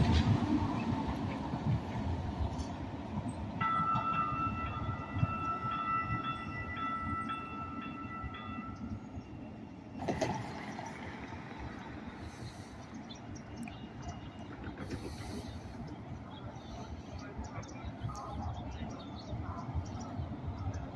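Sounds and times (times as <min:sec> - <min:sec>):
train rumbling: 0:00.0 - 0:20.9.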